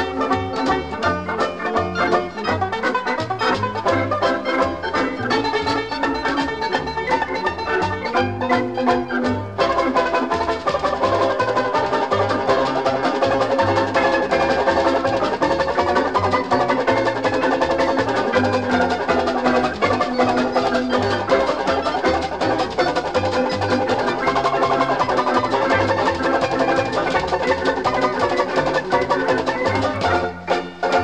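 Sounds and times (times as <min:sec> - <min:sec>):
drums: 0:00.0 - 0:31.0
instrumental keyboard music: 0:00.0 - 0:31.0
stepping bass line: 0:00.0 - 0:31.0.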